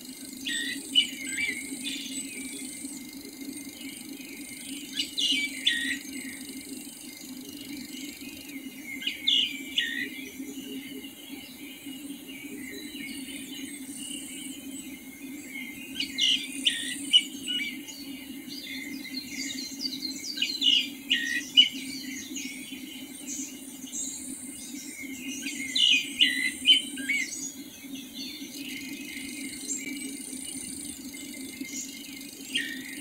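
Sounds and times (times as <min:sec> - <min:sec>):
songbird chirping: 0:00.0 - 0:33.0
steady low hum: 0:00.0 - 0:33.0.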